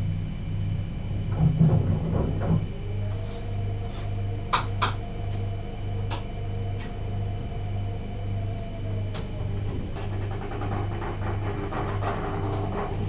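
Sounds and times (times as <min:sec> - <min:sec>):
electric train running: 0:00.0 - 0:13.0
electric whine: 0:00.0 - 0:13.0.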